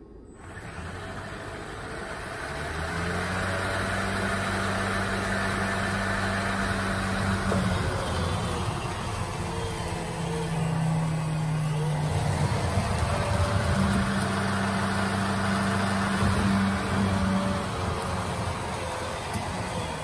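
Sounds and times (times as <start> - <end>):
electric motor humming: 0.4 - 20.0
snowblower throwing snow: 0.5 - 20.0.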